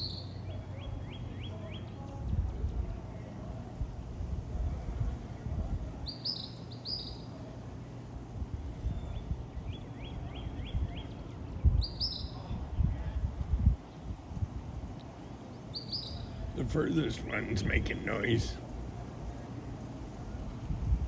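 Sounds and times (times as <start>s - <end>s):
songbirds chirping: 0.0s - 21.0s
steady low rumble: 0.0s - 21.0s.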